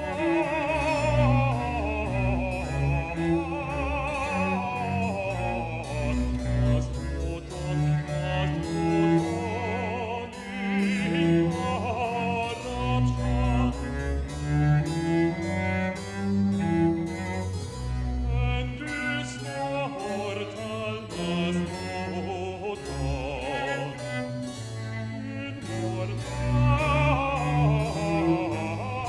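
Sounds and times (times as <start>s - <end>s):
harpsichord: 0.0s - 29.0s
strings playing: 0.0s - 29.0s.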